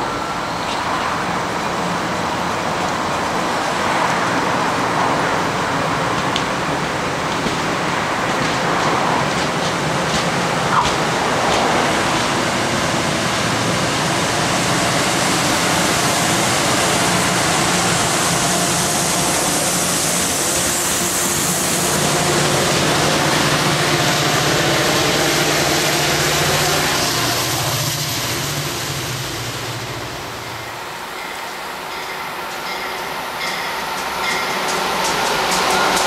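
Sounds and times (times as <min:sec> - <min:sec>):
train rushing noise: 0:00.0 - 0:36.0.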